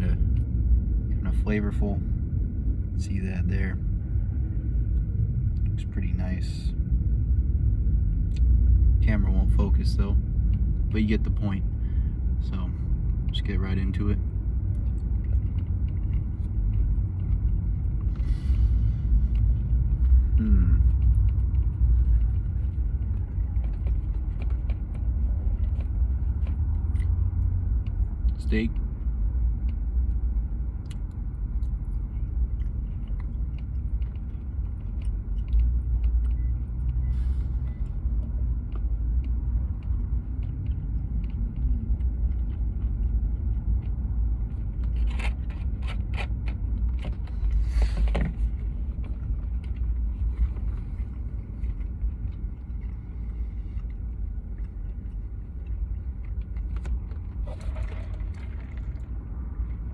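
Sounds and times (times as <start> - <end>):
car cabin engine rumble: 0.0 - 59.9.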